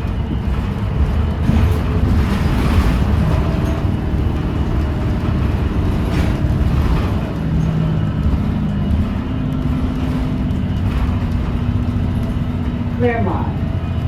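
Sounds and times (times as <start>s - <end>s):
bus drive rumble: 0.0s - 14.0s.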